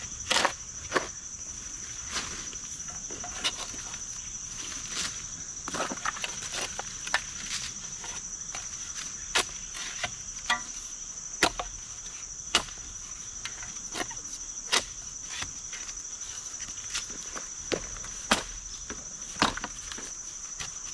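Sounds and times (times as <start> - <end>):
high-pitched insect chorus: 0.0 - 20.9.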